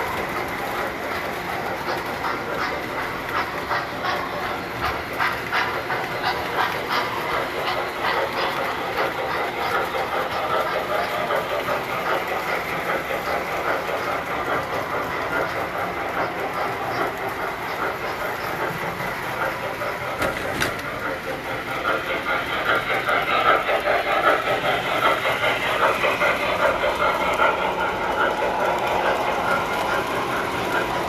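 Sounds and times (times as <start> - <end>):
model trains rattling on metal track: 0.0 - 31.0.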